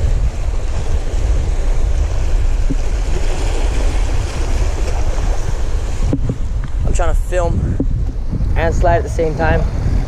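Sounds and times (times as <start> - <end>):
heavy low rumble: 0.0 - 10.0
surf rushing: 0.0 - 10.0
wind buffeting microphone: 0.0 - 10.0.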